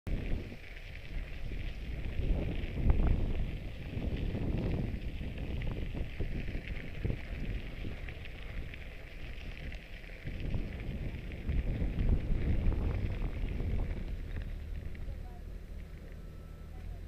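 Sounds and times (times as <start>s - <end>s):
wind rumbling on microphone: 0.1s - 17.0s.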